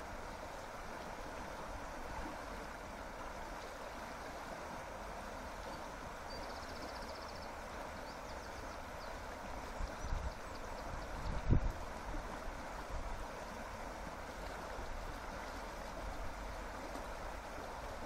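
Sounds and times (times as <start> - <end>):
river rushing over rapids: 0.0 - 18.0.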